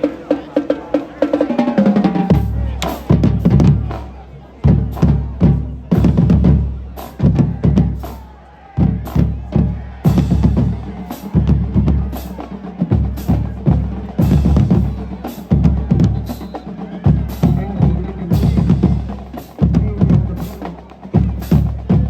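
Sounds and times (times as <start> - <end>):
drumline playing cadence: 0.0 - 22.0.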